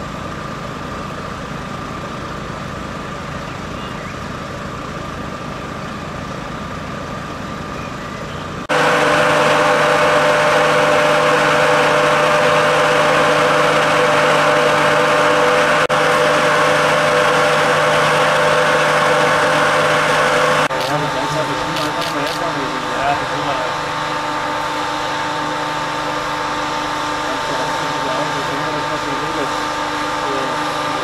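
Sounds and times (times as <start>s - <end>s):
close engine hum: 0.0s - 31.0s
engines idling: 0.0s - 31.0s.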